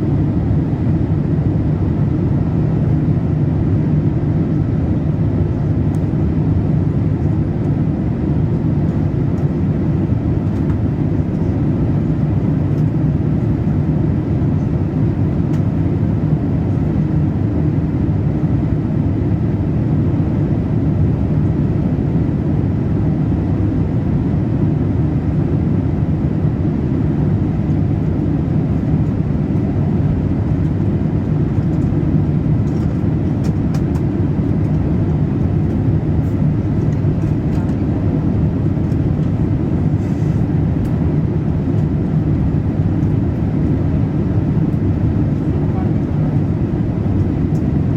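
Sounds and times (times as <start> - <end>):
airliner cabin noise: 0.0 - 47.9.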